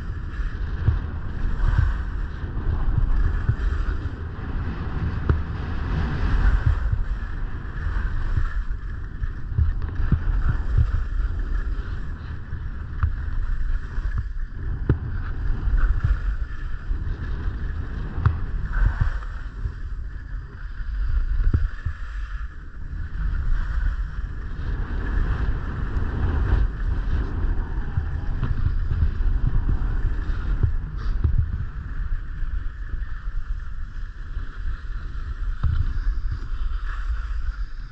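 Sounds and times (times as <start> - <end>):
skis sliding on packed snow: 0.0 - 37.9
wind buffeting microphone: 0.0 - 37.9.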